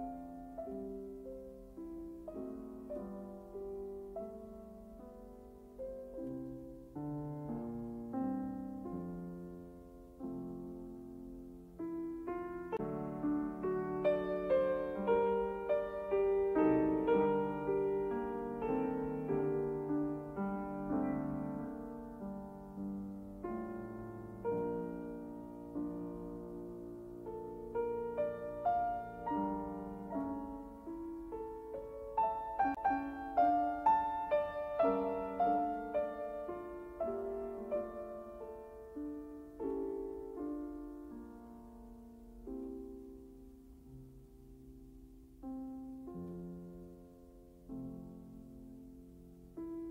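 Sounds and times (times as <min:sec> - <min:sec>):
slow solo piano: 0:00.0 - 0:49.9.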